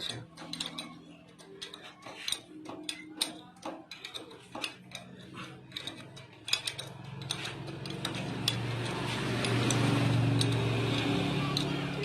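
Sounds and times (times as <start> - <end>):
metallic clicks of tools: 0.0 - 12.0.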